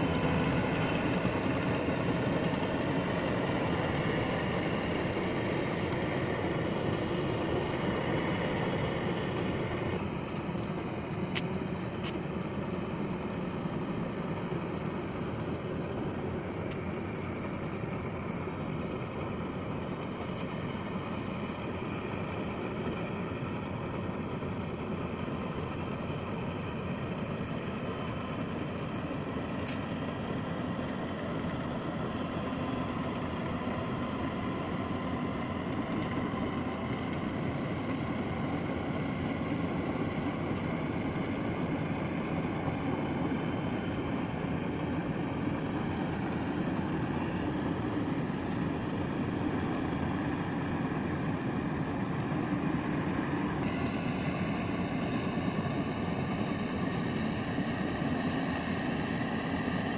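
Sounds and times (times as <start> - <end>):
diesel engine drone: 0.0 - 59.9
machinery whine: 0.0 - 59.9.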